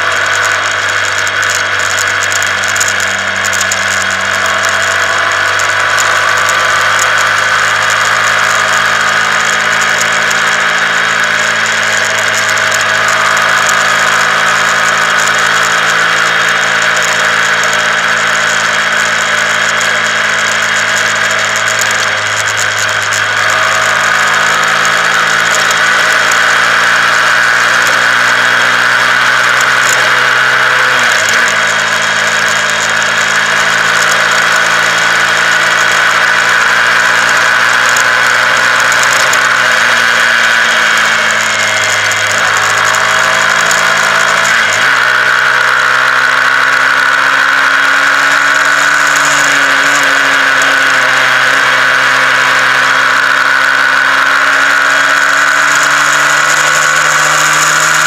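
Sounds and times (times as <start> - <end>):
motorcycle engine pulling: 0.0 - 58.0.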